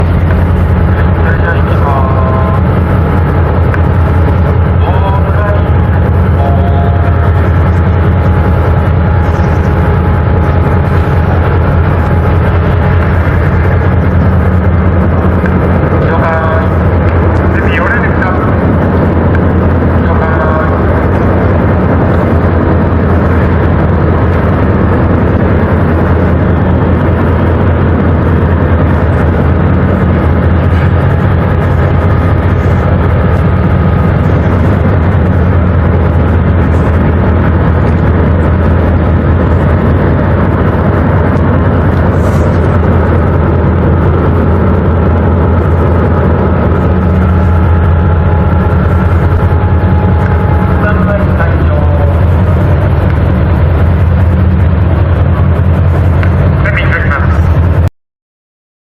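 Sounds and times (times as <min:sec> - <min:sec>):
ship engines droning: 0:00.0 - 0:57.9.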